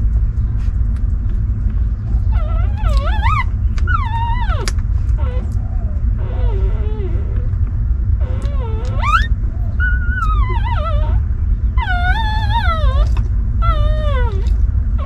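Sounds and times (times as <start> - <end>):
steady low rumble: 0.0 - 15.0
puppies whining: 2.0 - 15.0.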